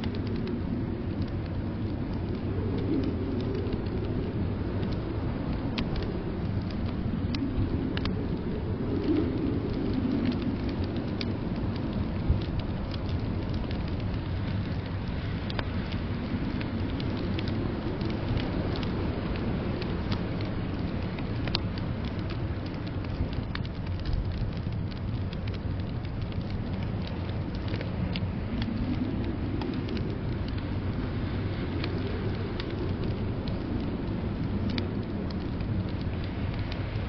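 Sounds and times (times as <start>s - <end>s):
blizzard wind rushing: 0.0s - 37.0s
wood fire crackling and popping: 0.0s - 37.0s.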